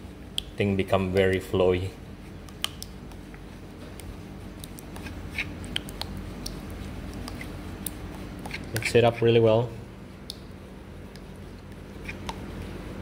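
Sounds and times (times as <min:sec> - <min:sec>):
low steady hum: 0:00.0 - 0:13.0
wet squishing of stirred slip: 0:00.0 - 0:13.0.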